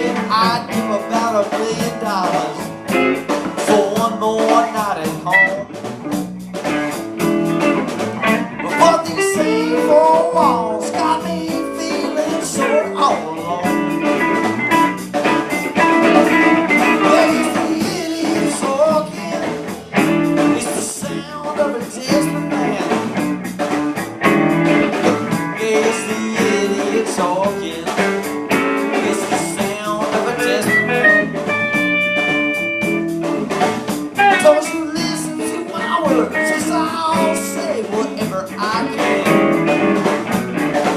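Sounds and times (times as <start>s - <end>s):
blues guitar instrumental: 0.0s - 40.9s.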